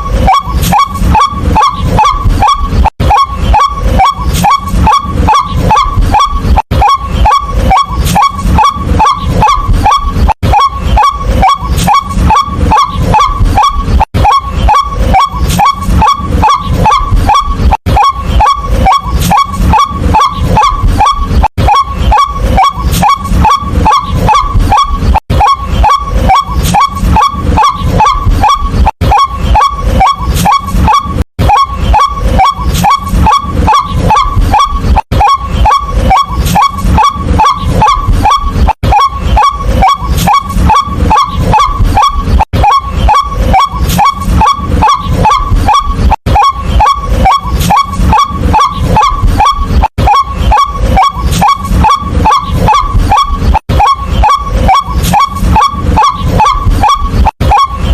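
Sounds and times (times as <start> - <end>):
bird calling kwak: 0.0 - 57.9.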